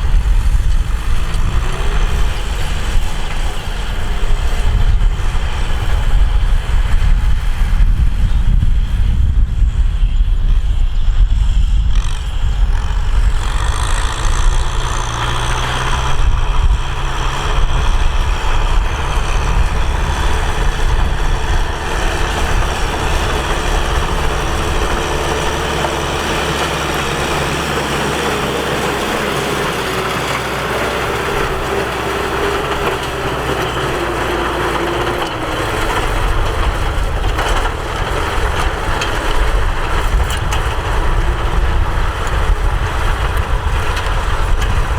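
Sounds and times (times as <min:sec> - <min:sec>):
tractor engine rumbling: 0:00.0 - 0:44.9.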